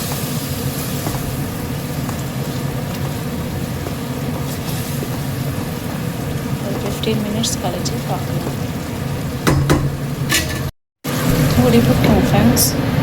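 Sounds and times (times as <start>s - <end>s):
gravy heating on stove: 0.0s - 13.0s.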